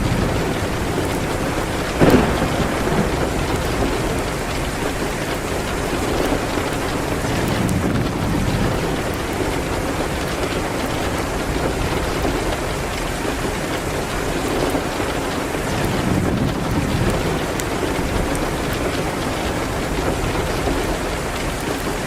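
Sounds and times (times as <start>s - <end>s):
rain hitting a window: 0.0s - 22.0s.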